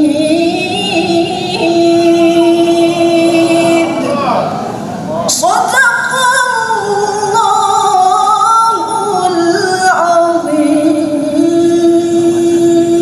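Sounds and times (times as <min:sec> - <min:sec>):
woman reciting melodically: 0:00.0 - 0:04.6, 0:05.2 - 0:13.0.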